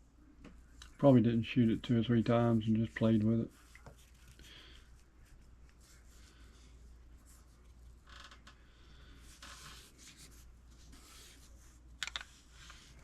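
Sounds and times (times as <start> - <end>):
faint rustles or scrapes: 0.5 - 13.0.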